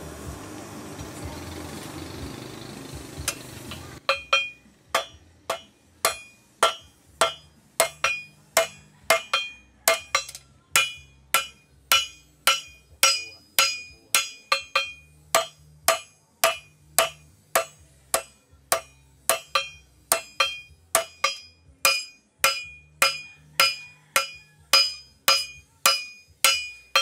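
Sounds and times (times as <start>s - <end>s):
hammer ringing on anvil: 3.3s - 27.0s.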